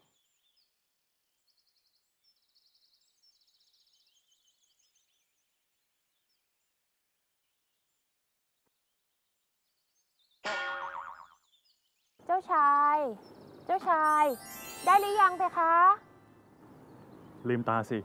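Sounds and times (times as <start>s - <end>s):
faint bird chirps and trills: 0.0s - 18.0s.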